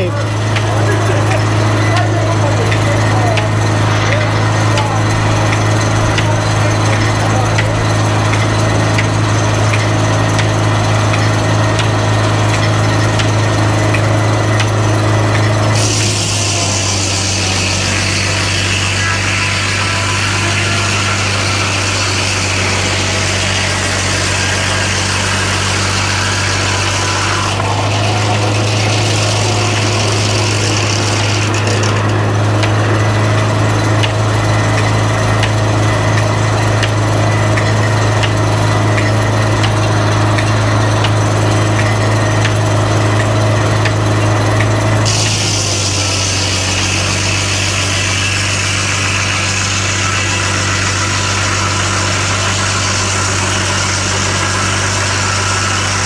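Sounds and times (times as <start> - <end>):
engine hum: 0.0 - 56.0
sawmill blade cutting log: 0.0 - 56.0.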